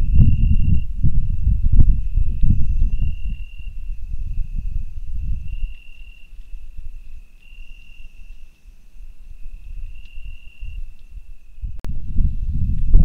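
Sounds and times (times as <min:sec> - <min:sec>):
cricket trilling: 0:00.0 - 0:11.8
low rumble and crackle: 0:00.0 - 0:13.0.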